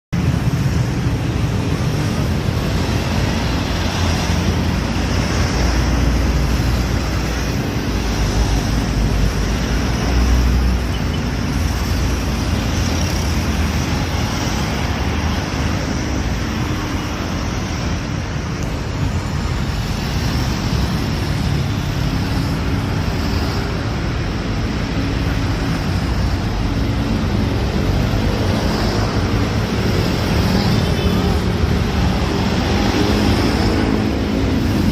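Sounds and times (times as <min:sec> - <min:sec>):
bus engines rumbling: 0:00.2 - 0:34.9.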